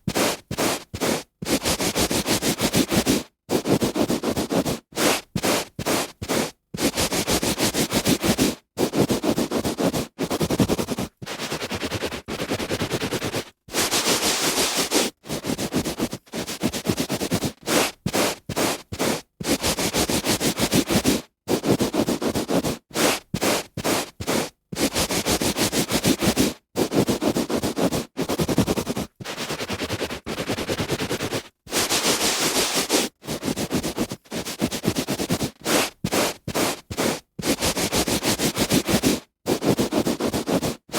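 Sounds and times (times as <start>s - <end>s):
hand rubbing on carpet: 0.0s - 40.8s.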